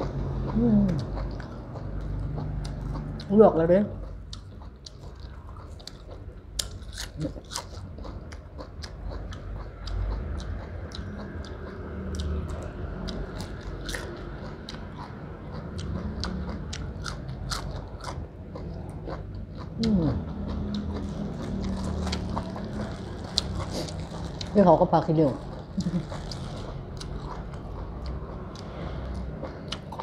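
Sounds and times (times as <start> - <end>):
person chewing with crisp crunches: 0.0 - 3.3, 3.9 - 30.0.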